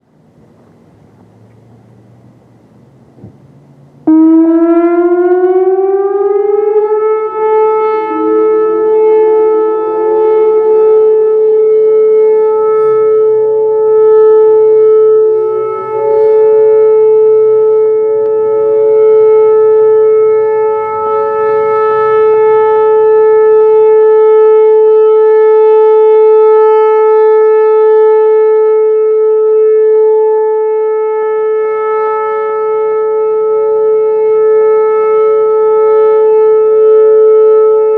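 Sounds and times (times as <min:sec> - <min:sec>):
faint distant sirens: 0:00.0 - 0:37.9
electronic warning siren: 0:04.0 - 0:37.9.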